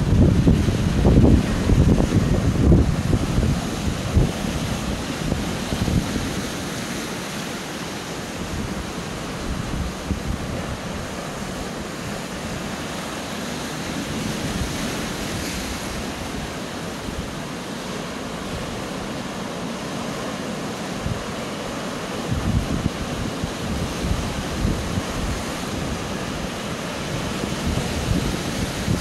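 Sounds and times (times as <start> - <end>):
wind buffeting microphone: 0.0 - 7.2, 8.2 - 19.6, 20.7 - 29.0
surf breaking over rocks: 0.0 - 29.0.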